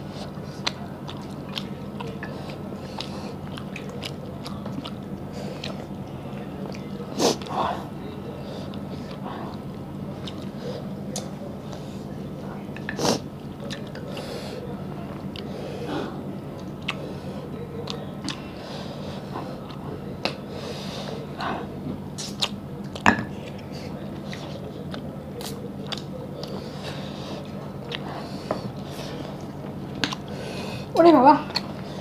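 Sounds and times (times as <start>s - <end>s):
chewing and wet mouth sounds: 0.0s - 32.0s.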